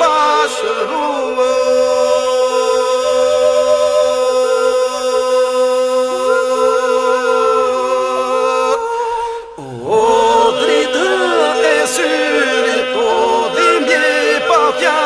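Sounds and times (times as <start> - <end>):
voices singing ornamented melody: 0.0 - 15.0.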